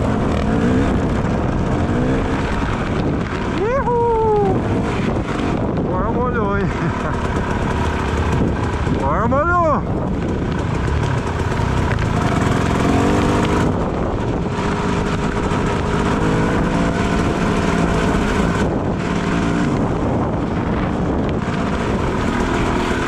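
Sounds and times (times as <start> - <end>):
dirt bike engine revving: 0.0 - 23.0
wind: 0.0 - 23.0.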